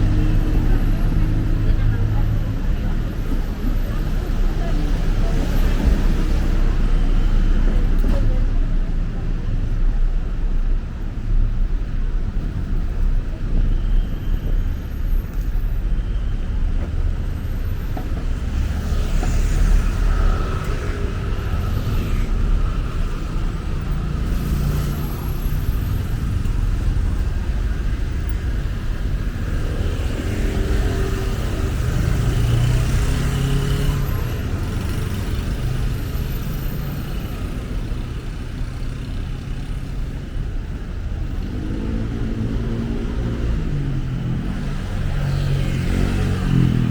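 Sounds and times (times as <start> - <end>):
city road traffic rumble: 0.0 - 46.9.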